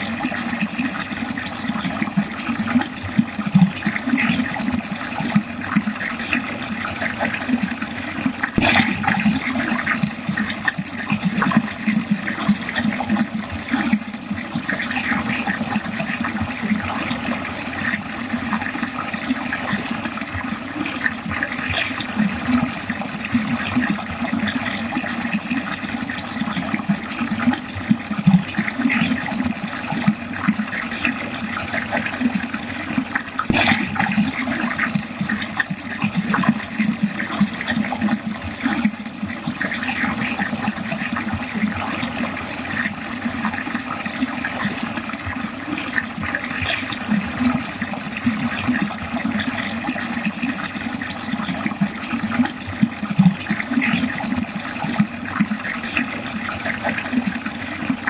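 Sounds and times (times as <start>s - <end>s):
water gurgling down drain: 0.0s - 58.0s.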